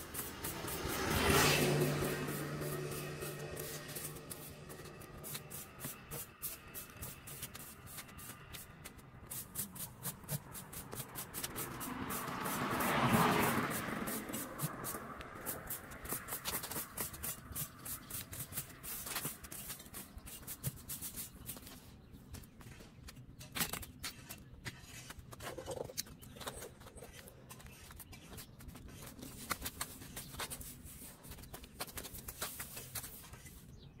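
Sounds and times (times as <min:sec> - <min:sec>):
broom sweeping concrete: 0:00.0 - 0:23.0, 0:24.0 - 0:25.7, 0:26.4 - 0:33.8.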